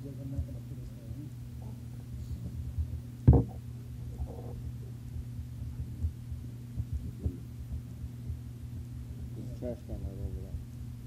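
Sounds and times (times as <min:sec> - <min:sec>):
steady low hum: 0:00.0 - 0:11.0
soft low thumps: 0:00.2 - 0:00.6, 0:01.6 - 0:11.0.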